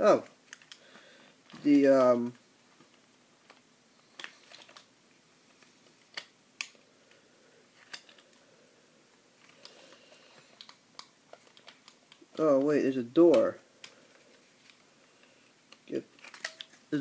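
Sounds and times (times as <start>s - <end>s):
faint packaging rustle: 0.1s - 6.3s, 7.0s - 17.0s.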